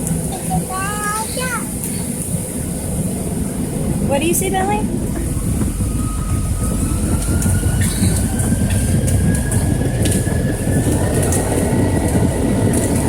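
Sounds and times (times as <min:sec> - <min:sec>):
jet engines spooling up: 0:01.4 - 0:13.0.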